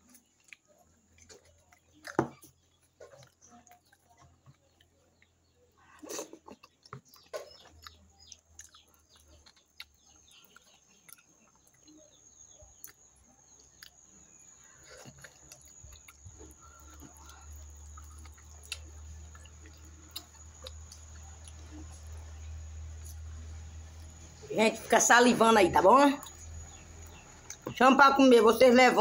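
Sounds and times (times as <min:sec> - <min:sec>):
chewing and lip-smacking: 0:00.0 - 0:24.4, 0:26.2 - 0:27.8.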